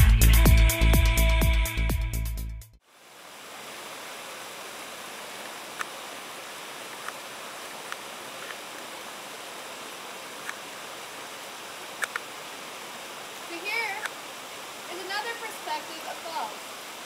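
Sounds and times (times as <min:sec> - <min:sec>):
waterfall rushing: 0:02.9 - 0:17.0.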